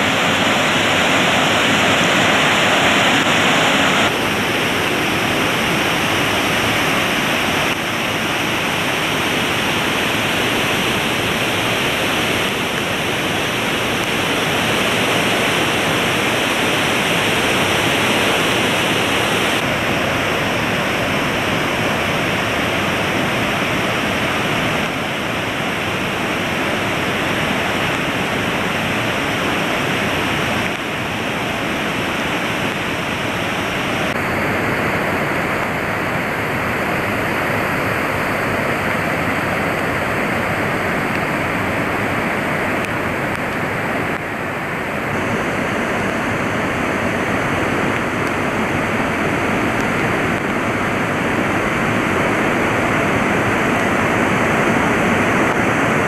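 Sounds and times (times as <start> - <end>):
river rushing over boulders: 0.0 - 56.0.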